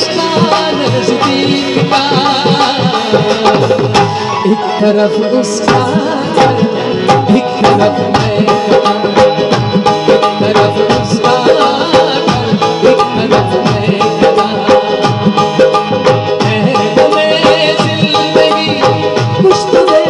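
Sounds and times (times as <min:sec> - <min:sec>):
harmonium melody: 0:00.0 - 0:20.0
tabla rhythm: 0:00.0 - 0:20.0.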